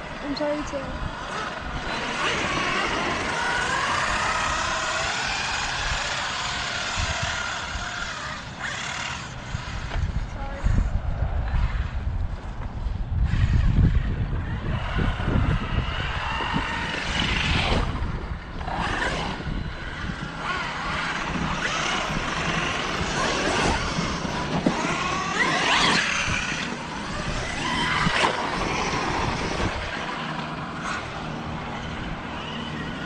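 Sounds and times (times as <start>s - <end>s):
electric motor whining: 0.0s - 33.0s.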